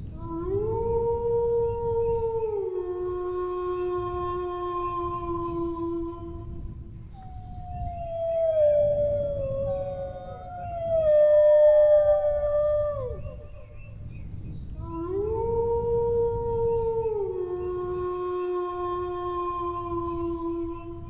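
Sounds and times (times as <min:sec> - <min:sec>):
low background rumble: 0:00.0 - 0:21.0
dog howling: 0:00.2 - 0:13.8, 0:14.8 - 0:21.0.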